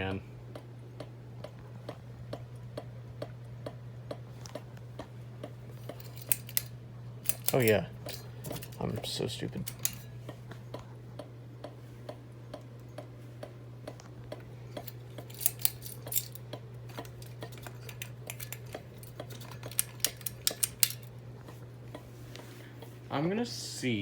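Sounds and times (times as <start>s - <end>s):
ceiling fan motor hum: 0.0s - 24.0s
ceiling fan ticking: 0.0s - 24.0s.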